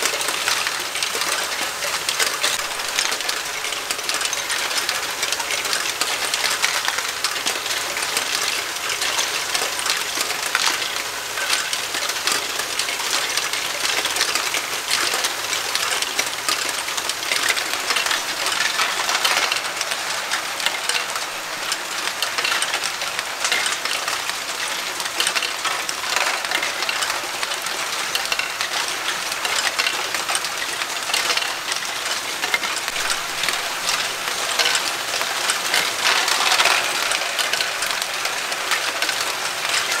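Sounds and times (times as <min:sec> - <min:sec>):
plastic balls clattering: 0:00.0 - 0:40.0.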